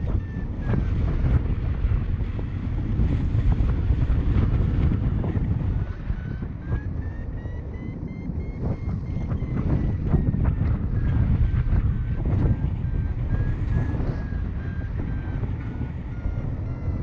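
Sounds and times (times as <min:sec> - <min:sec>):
variometer beeping: 0:00.0 - 0:17.0
wind rushing over microphone: 0:00.0 - 0:17.0.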